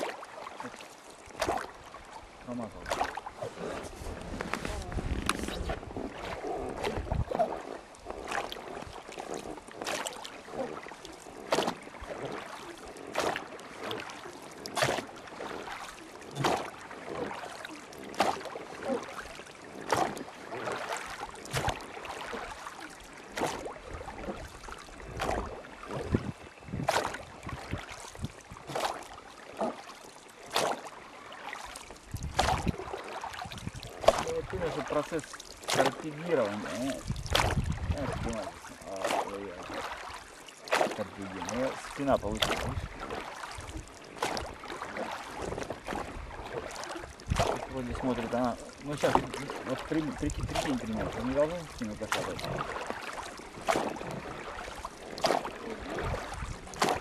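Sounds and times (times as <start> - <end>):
moving water wash: 0.0 - 57.0
rhythmic splashing in water: 0.0 - 57.0.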